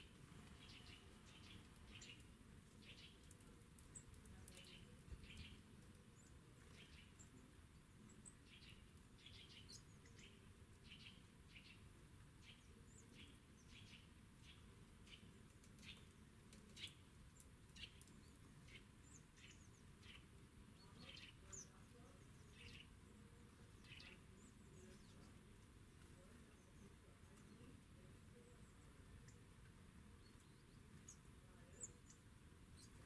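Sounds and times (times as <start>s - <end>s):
faint low background noise: 0.0s - 33.0s
small songbirds chirping: 0.0s - 33.0s.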